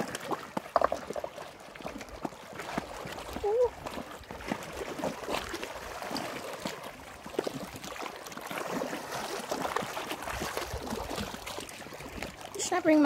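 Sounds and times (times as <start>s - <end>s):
small water splashes: 0.0s - 13.0s
waves lapping against rocks: 0.0s - 13.0s.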